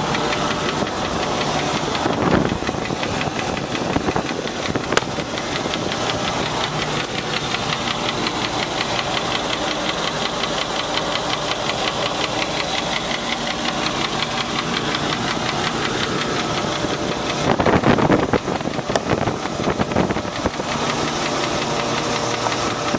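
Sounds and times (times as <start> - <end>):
engine running with rapid knock: 0.0 - 22.9.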